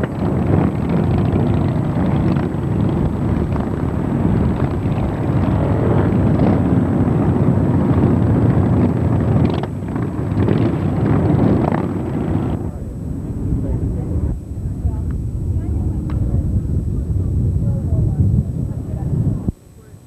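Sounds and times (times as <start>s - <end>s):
vehicle engines rumbling: 0.0s - 19.5s
wind buffeting microphone: 0.0s - 20.0s.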